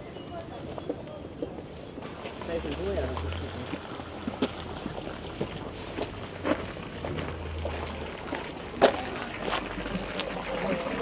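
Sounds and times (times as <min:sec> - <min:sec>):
steady low city hum: 0:02.0 - 0:11.0.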